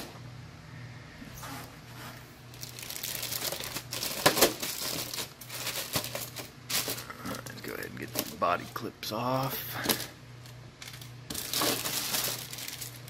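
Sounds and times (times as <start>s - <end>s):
plastic bag crinkling: 2.5s - 13.0s.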